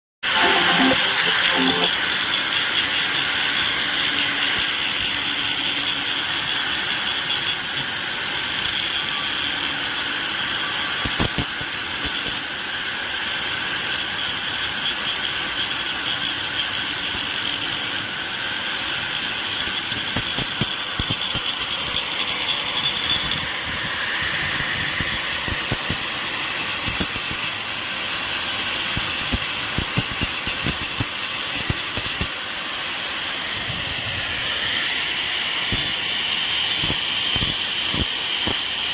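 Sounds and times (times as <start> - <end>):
angle grinder grinding metal: 0.2 - 32.4, 33.4 - 38.9.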